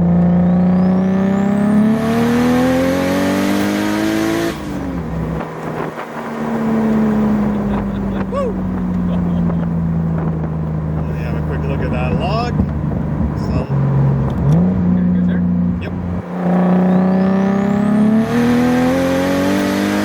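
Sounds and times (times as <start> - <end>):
car engine revving at full throttle: 0.0 - 20.0.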